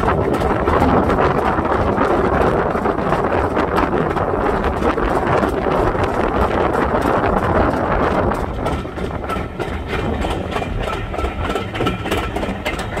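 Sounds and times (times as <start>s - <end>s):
faint rail clicks: 0.0s - 13.0s
train rumbling: 0.0s - 13.0s.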